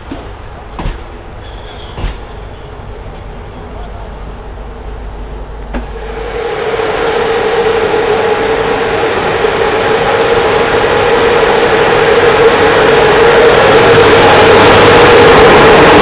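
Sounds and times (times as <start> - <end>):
electric locomotive humming: 0.0 - 16.0.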